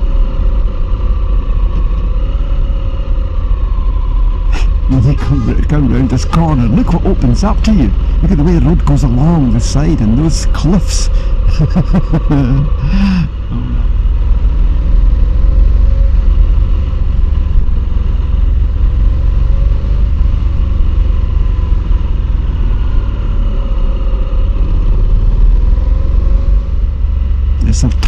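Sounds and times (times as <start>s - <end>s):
motorcycle engine running: 4.3s - 28.0s.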